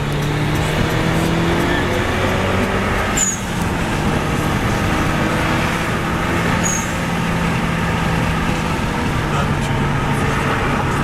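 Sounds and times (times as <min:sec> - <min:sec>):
car engine running: 0:00.0 - 0:11.0
road and tyre noise: 0:00.0 - 0:11.0.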